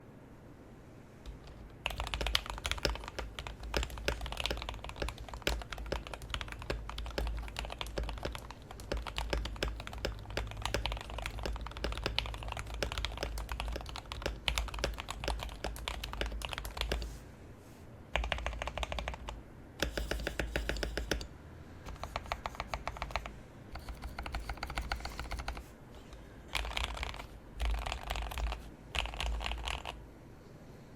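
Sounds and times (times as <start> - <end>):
mechanical keyboard typing: 1.2 - 17.1, 18.2 - 21.3, 21.9 - 25.7, 26.5 - 30.0.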